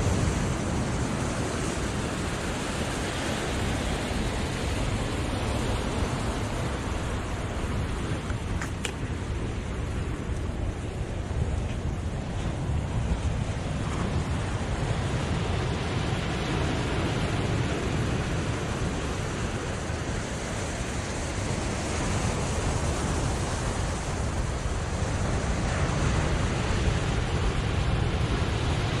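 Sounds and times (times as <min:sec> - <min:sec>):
wind rumbling on microphone: 0:00.0 - 0:29.0.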